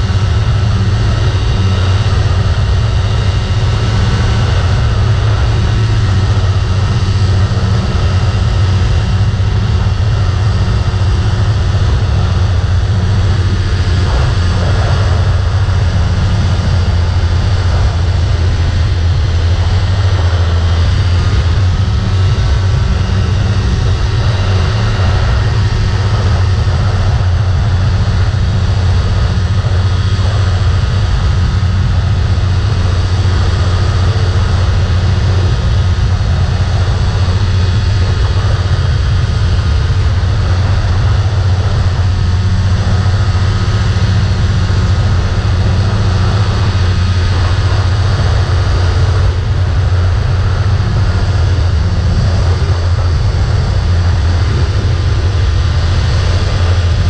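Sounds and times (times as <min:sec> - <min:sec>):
ultralight engine and propeller drone: 0:00.0 - 0:57.0.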